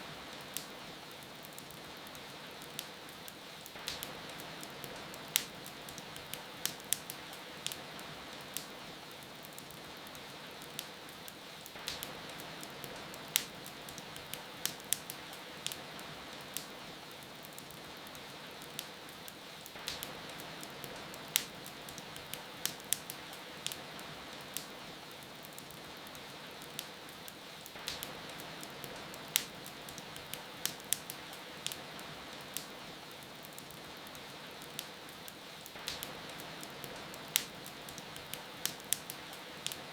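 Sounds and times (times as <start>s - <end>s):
steady rain hiss: 0.0s - 39.9s
wood fire crackling: 0.0s - 39.9s.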